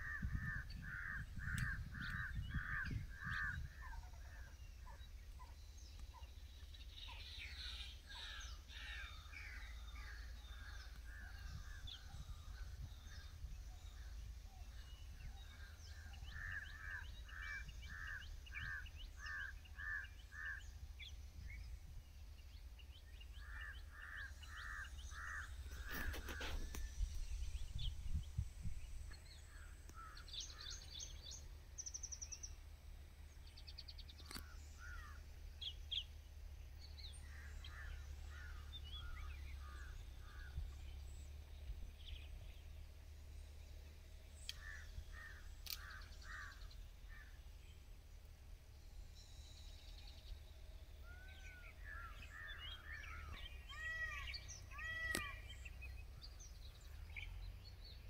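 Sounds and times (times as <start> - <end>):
birds chirping and trilling: 0.0 - 58.0
low steady rumble: 0.0 - 58.0.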